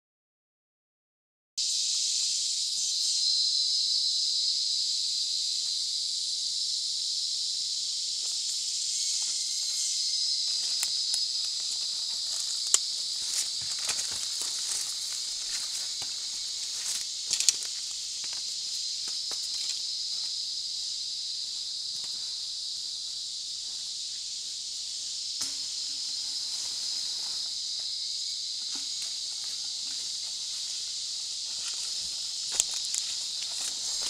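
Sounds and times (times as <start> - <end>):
high-pitched insect chorus: 1.6 - 34.0.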